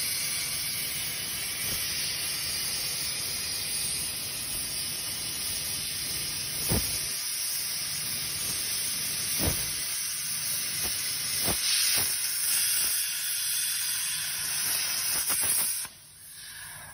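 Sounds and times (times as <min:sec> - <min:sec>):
plasma torch hissing: 0:00.0 - 0:16.9.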